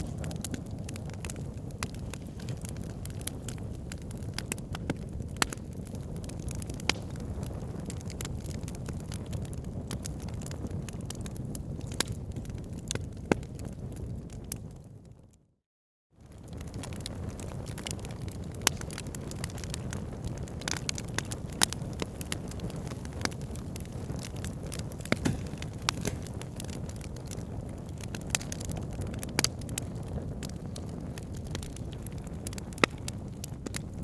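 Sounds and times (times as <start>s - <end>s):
fire crackling in a fireplace: 0.0s - 15.4s, 16.2s - 34.0s.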